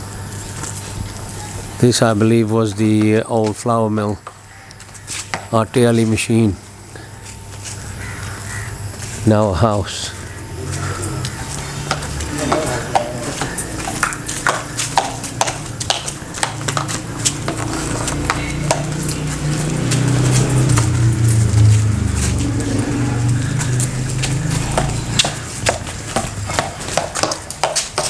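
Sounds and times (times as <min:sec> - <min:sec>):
engine and road hum: 0:04.3 - 0:28.0.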